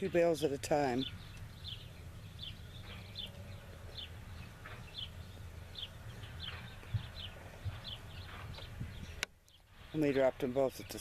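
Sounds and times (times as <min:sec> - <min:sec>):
tractor and baler rumbling: 0:00.0 - 0:09.3
bird chirping: 0:00.0 - 0:11.0.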